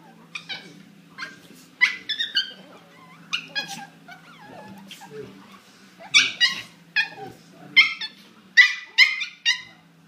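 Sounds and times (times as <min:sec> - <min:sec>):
dog yelping: 0:00.0 - 0:09.8
dogs fighting: 0:00.0 - 0:10.0.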